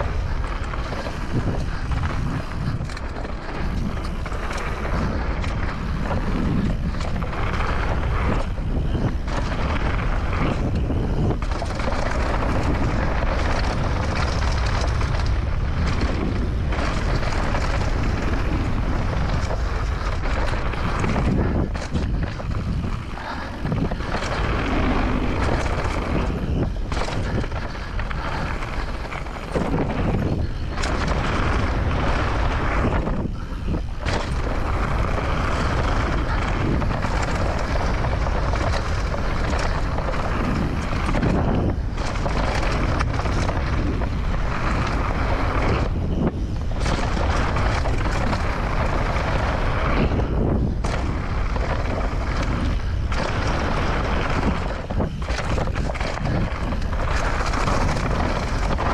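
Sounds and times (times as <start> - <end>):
bike rattling: 0.0 - 58.9
bike tyres rolling on dirt: 0.0 - 58.9
wind over microphone: 0.0 - 58.9.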